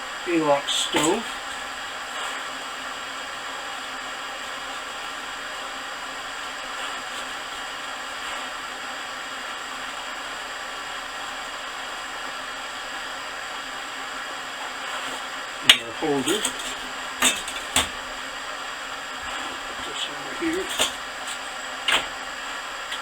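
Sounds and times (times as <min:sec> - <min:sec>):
propane heater hissing: 0:00.0 - 0:23.0.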